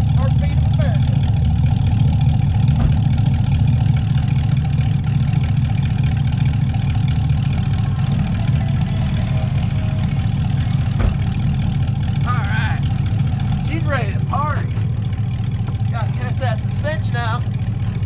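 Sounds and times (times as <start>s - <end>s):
pickup engine idling: 0.0s - 18.0s.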